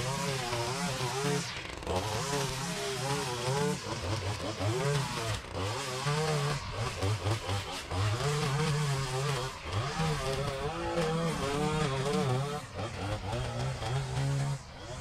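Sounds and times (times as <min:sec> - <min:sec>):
string trimmer engine running: 0:00.0 - 0:15.0.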